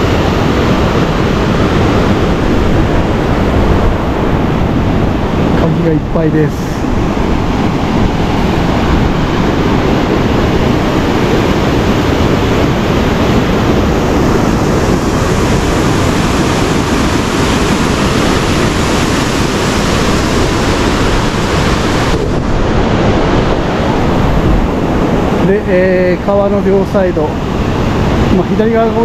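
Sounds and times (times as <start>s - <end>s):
white water roaring over rapids: 0.0s - 29.0s.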